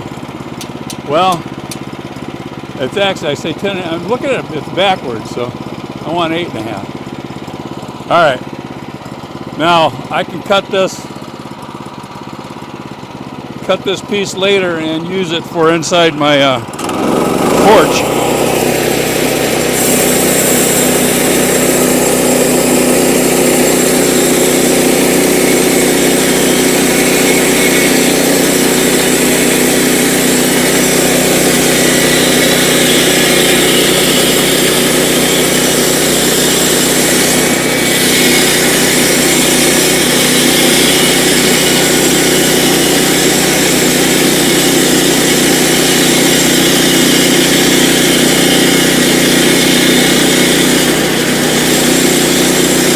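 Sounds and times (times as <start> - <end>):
saw blade cutting a log: 0.0 - 12.5, 13.2 - 52.9
sawmill engine running: 0.0 - 52.9.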